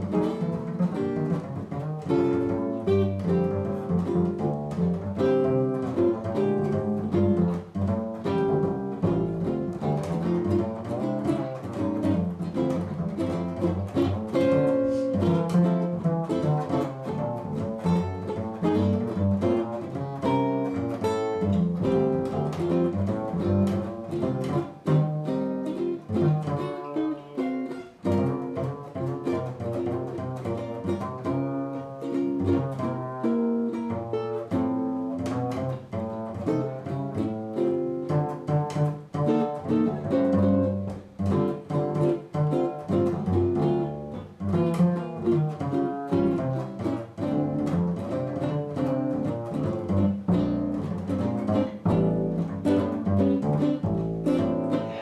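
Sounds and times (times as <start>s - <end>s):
double bass plucked: 0.0s - 55.0s
electric guitar picking notes: 0.0s - 55.0s.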